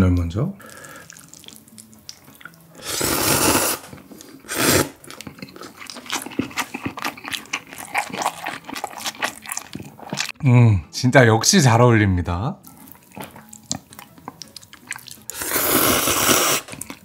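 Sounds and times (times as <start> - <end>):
close wet chewing: 0.6 - 10.4, 12.6 - 17.0
noodles slurped: 0.6 - 10.4, 12.8 - 17.0.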